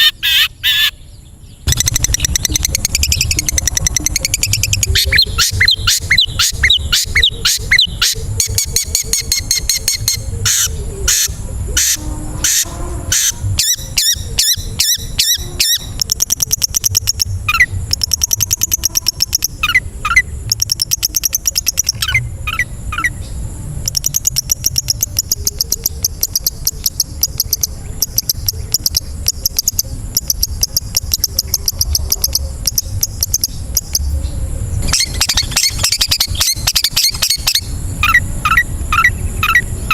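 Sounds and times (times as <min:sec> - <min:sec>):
shrike singing: 0:00.0 - 0:39.9
steady high-pitched tone: 0:00.0 - 0:39.9.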